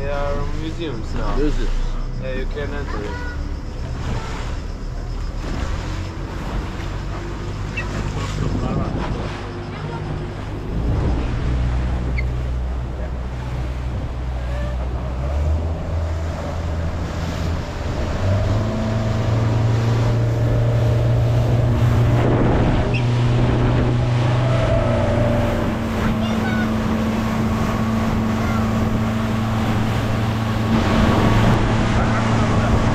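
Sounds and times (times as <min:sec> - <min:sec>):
motorboat engine running: 0:00.0 - 0:32.9
water rushing past hull: 0:00.0 - 0:32.9
wind on microphone: 0:03.1 - 0:32.9.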